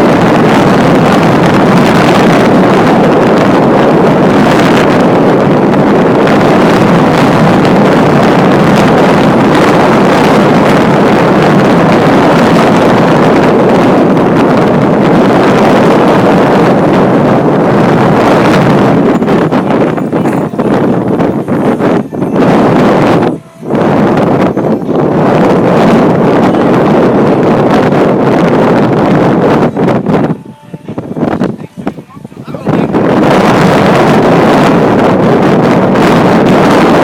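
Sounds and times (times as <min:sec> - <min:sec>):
wind blowing across microphone: 0:00.0 - 0:37.0.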